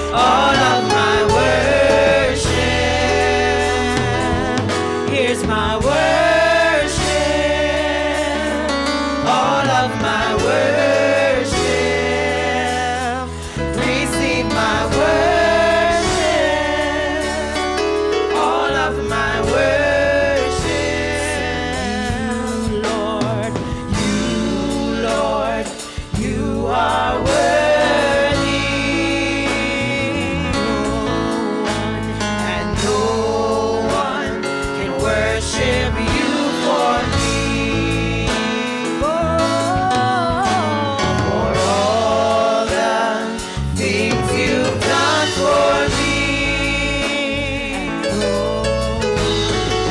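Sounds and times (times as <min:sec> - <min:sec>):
drums: 0:00.0 - 0:49.9
keyboard: 0:00.0 - 0:49.9
women singing gospel song: 0:00.0 - 0:49.9.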